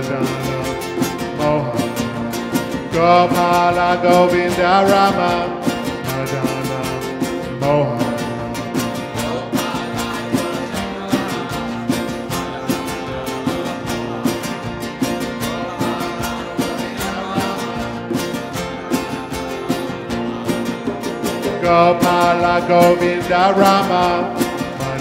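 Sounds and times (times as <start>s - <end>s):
guitar playing: 0.0s - 25.0s
hand percussion rhythm: 0.0s - 25.0s.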